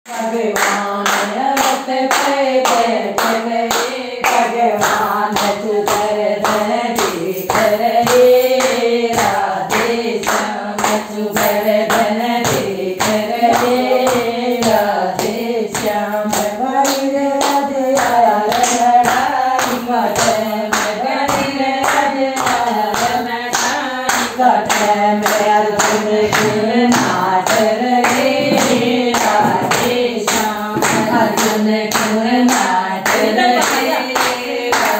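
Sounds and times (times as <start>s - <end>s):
rhythmic hand clapping: 0.1s - 34.9s
women singing together: 0.1s - 34.9s.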